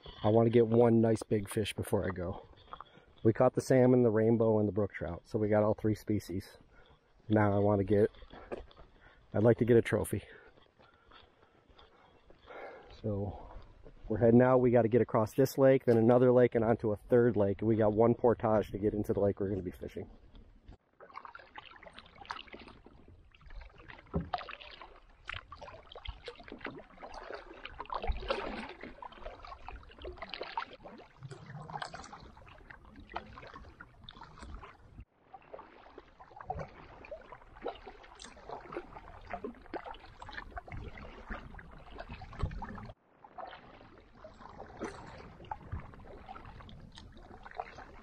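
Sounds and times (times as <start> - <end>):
paddle splashing in water: 0.0 - 4.3, 5.0 - 14.1, 19.2 - 48.0.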